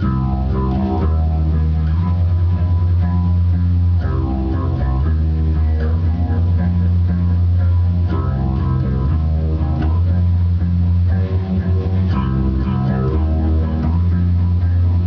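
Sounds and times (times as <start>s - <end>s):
heavy guitar and bass music: 0.0s - 15.0s.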